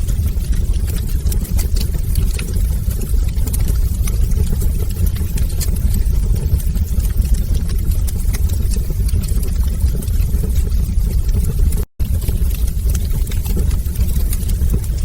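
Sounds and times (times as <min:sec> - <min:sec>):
low rumble of flames: 0:00.0 - 0:15.0
crackles and pops of burning logs: 0:00.1 - 0:15.0.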